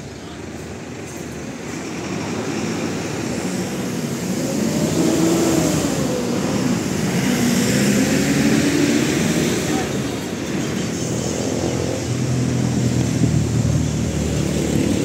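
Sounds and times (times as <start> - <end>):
vehicle rumble and hiss: 0.0 - 15.0.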